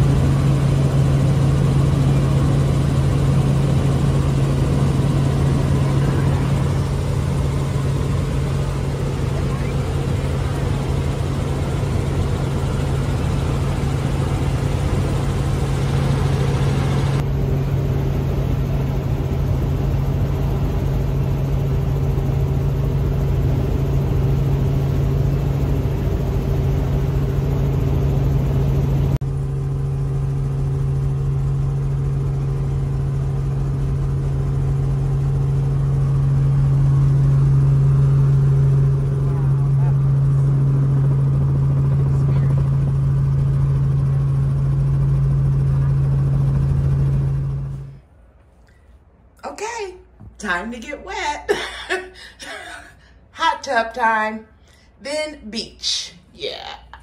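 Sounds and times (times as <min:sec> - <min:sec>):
helicopter engine and rotor drone: 0:00.0 - 0:48.1.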